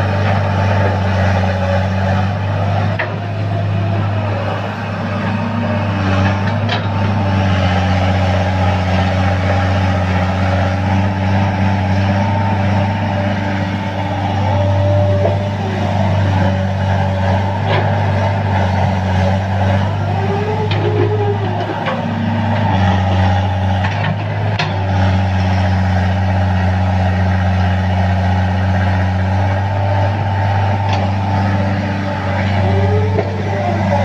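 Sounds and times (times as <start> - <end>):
hydraulic whine: 0.0 - 25.7, 29.1 - 34.0
excavator diesel engine running: 0.0 - 34.0.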